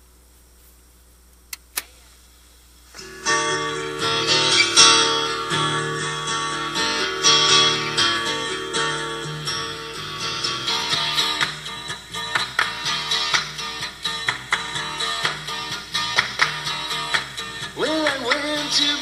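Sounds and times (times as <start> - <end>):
guitar chords strummed: 3.0 - 19.0.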